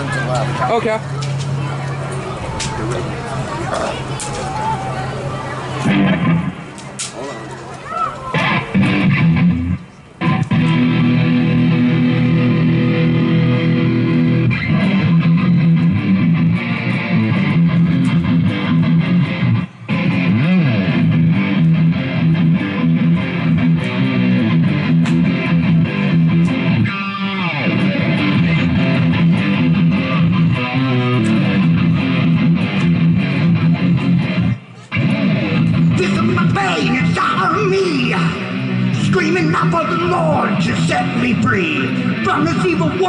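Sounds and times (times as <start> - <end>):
electric guitar through amplifier: 0.0 - 43.0.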